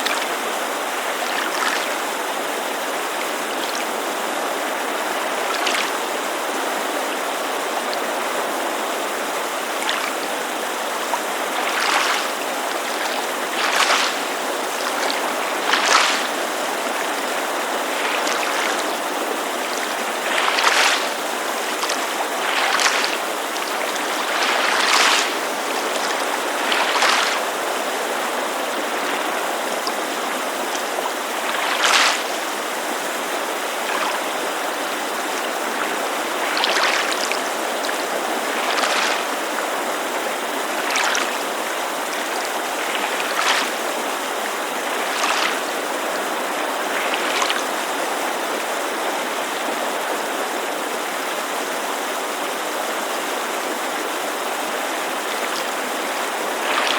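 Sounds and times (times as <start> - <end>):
creek rushing: 0.0 - 56.9
water lapping against shore: 0.0 - 56.9.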